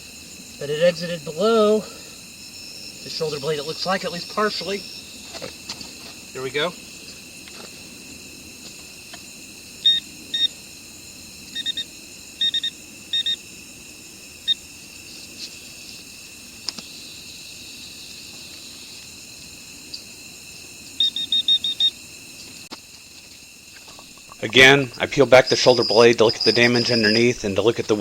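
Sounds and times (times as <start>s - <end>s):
night insects droning: 0.0s - 28.0s.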